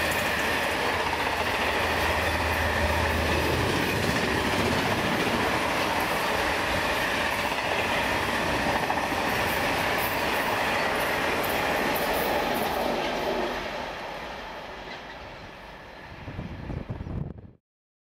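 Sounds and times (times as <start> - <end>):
freight train wheels clattering: 0.0 - 15.6.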